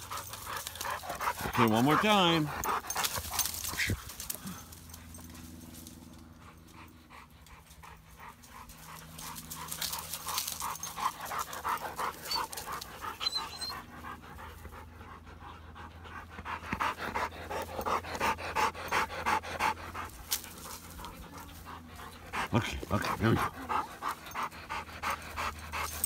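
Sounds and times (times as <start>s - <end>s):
dogs panting: 0.0s - 26.0s.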